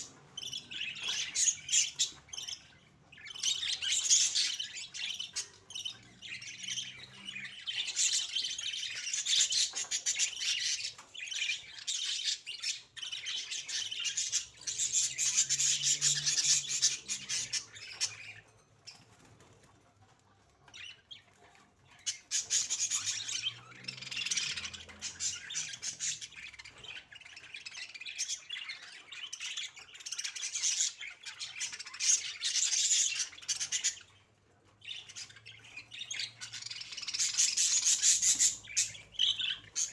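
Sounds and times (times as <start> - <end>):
budgerigars chattering: 0.0 - 18.4, 21.9 - 34.2, 34.8 - 39.9.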